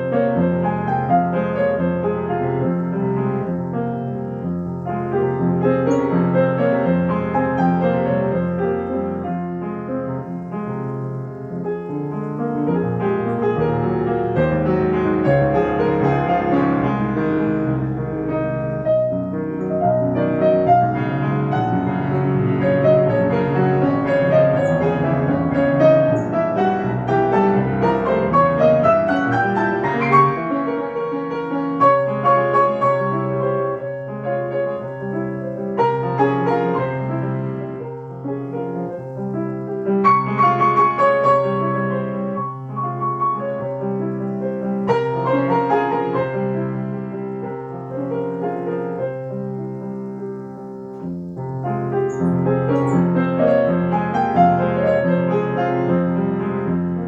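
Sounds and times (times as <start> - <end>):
solo piano classical piece: 0.0 - 57.0.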